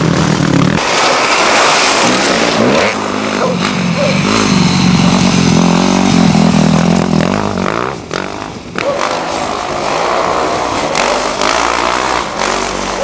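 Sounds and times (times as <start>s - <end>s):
motorcycle engine running: 0.0s - 0.8s, 2.4s - 13.0s.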